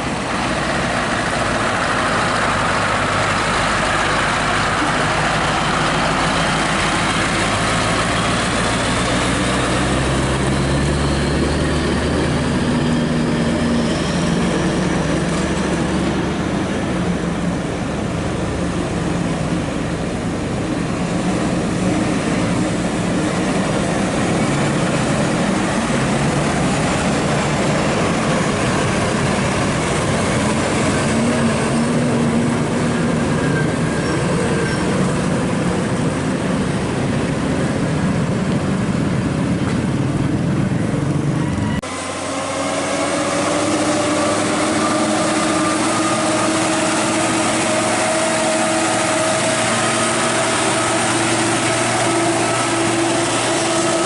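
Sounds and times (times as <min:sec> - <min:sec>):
diesel truck engine: 0:00.0 - 0:54.0
road and tyre noise: 0:00.0 - 0:54.0.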